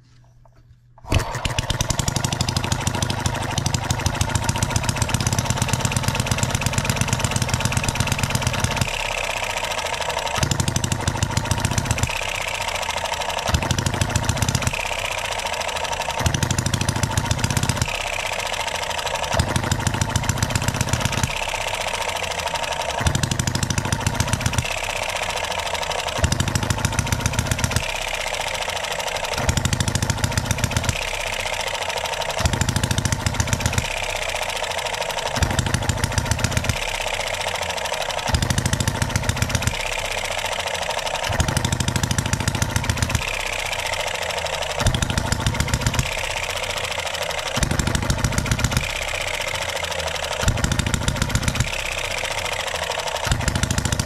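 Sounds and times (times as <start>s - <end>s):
model engine firing and coasting: 0.0s - 54.0s.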